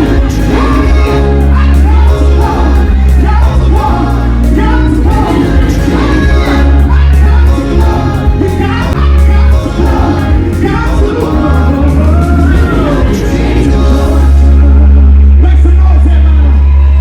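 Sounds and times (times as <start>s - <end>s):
person singing: 0.0s - 15.4s
heavy bass: 0.0s - 17.0s
live concert music: 0.0s - 17.0s.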